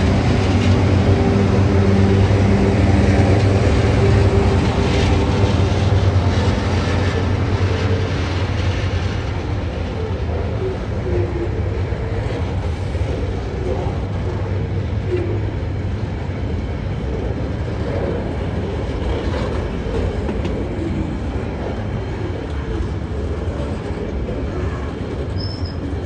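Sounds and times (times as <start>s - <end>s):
constant low hum: 0.0s - 26.0s
freight train wheels rumbling: 0.0s - 26.0s.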